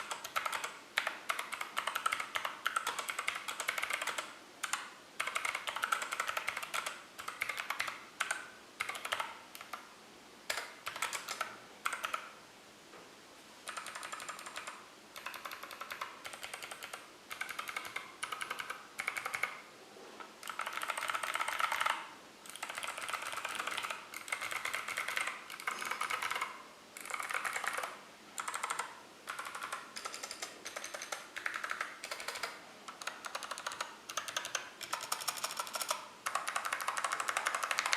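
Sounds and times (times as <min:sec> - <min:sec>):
typing on mechanical keyboard: 0:00.0 - 0:09.9, 0:10.5 - 0:12.4, 0:13.7 - 0:19.6, 0:20.4 - 0:37.9.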